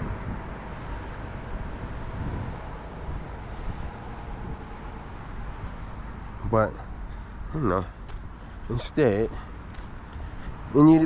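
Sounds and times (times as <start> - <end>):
truck engine rumbling: 0.0 - 10.6.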